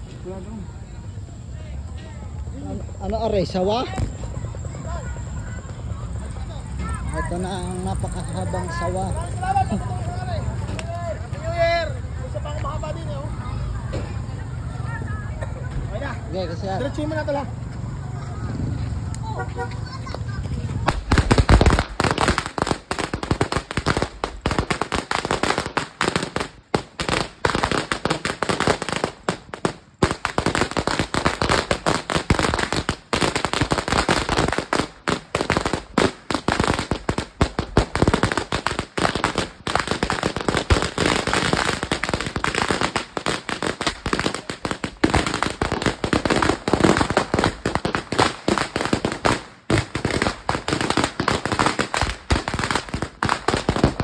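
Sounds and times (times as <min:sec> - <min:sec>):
firecracker string crackling: 0:01.8 - 0:54.0.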